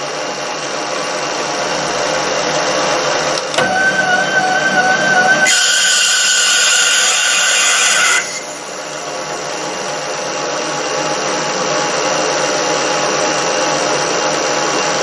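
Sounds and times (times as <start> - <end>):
lathe running: 0.0 - 15.0.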